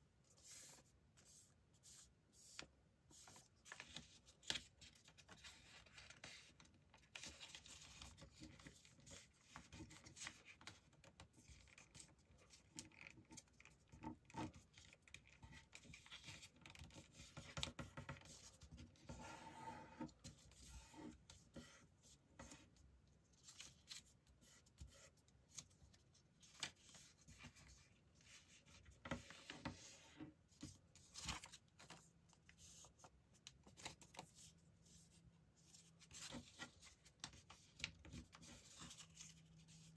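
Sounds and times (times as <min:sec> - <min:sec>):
paper being folded and creased: 0:00.4 - 0:19.4, 0:23.3 - 0:39.9.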